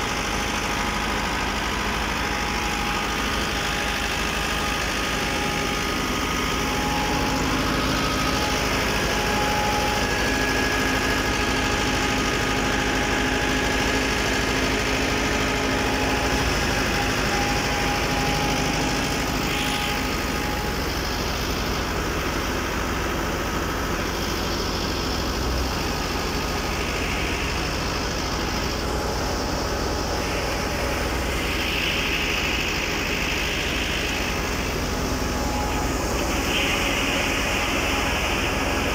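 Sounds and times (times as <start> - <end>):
diesel tractor engine running: 0.0 - 38.9
thresher drum and belts whining: 0.0 - 38.9.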